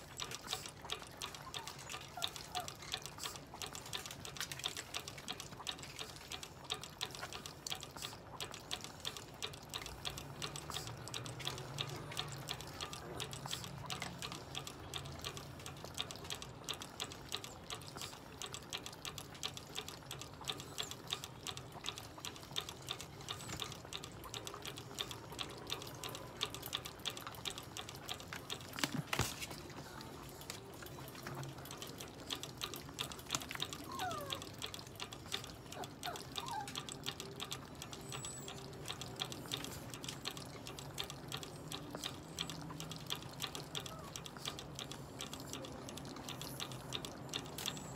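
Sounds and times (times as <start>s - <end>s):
dog licking water bottle nozzle: 0.0s - 47.9s.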